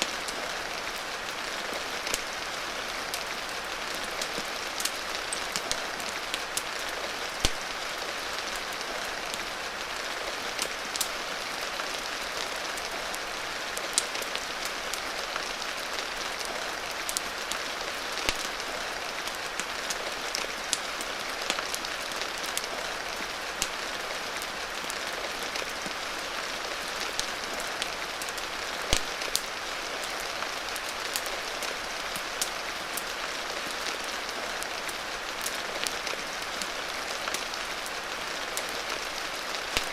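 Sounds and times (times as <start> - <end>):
rain hiss: 0.0 - 39.9
wood fire crackling: 0.0 - 39.9.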